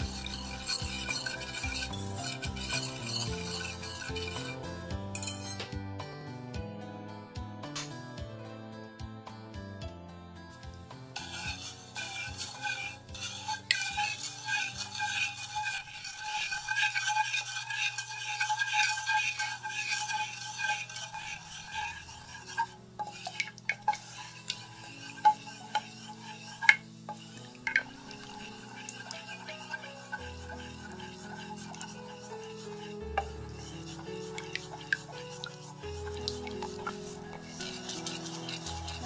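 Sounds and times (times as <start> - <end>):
spatula tapping pan: 0.0 - 4.6, 11.1 - 39.0
wooden spatula stirring sauce in pan: 0.0 - 5.1, 10.6 - 39.0.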